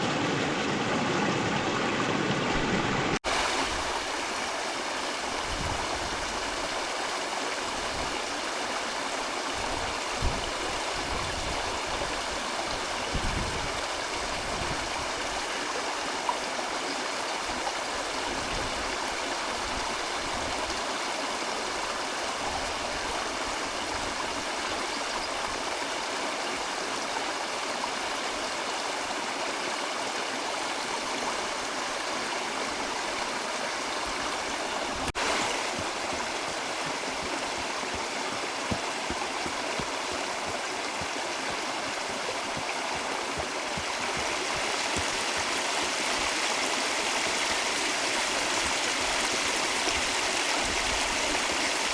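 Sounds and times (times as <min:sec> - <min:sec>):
river water rushing: 0:00.0 - 0:13.1, 0:13.8 - 0:51.9.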